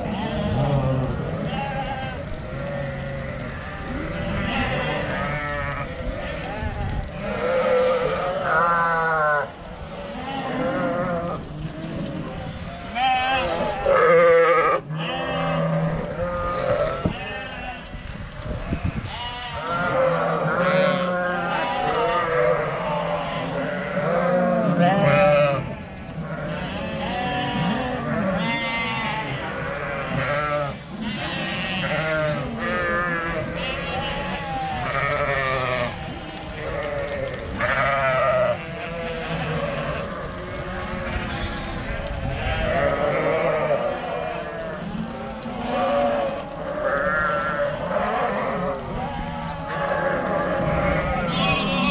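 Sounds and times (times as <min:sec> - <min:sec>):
sheep bleating: 0:00.0 - 0:51.9.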